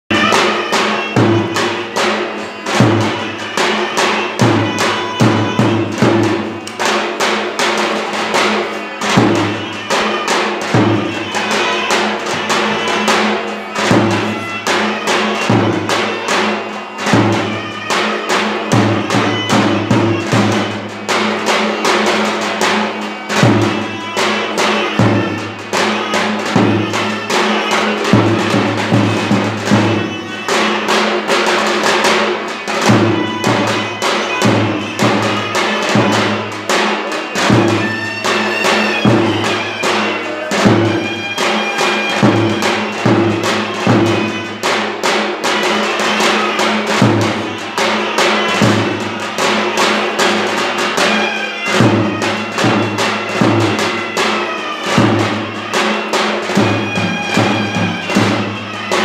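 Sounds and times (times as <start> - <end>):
large drum beating: 0.1 - 59.0
wind instrument melody: 0.1 - 59.0.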